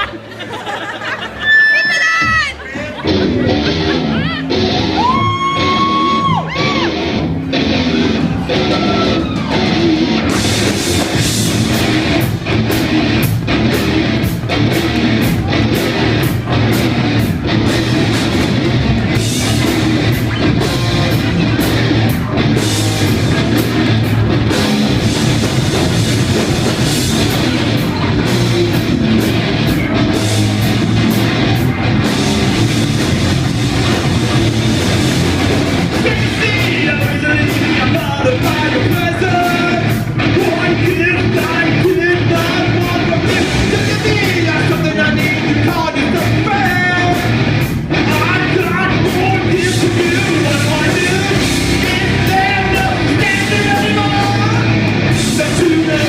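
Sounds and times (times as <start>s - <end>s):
live heavy metal band: 0.0s - 56.0s
wavering lead guitar line: 1.4s - 56.0s.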